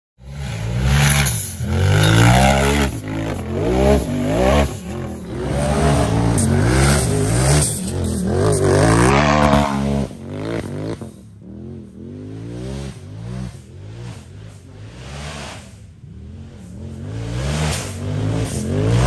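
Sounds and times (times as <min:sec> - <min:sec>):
buggy engine revving: 0:00.2 - 0:19.0.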